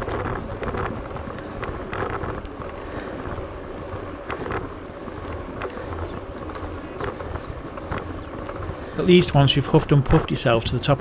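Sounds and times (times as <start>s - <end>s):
bike rolling on pavement: 0.0s - 11.0s
wind buffeting microphone: 0.0s - 11.0s.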